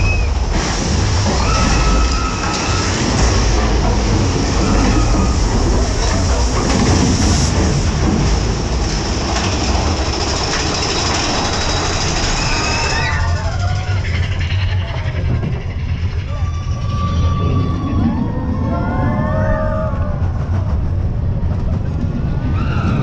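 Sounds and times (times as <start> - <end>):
roller coaster cars rumbling and rattling: 0.0 - 23.0.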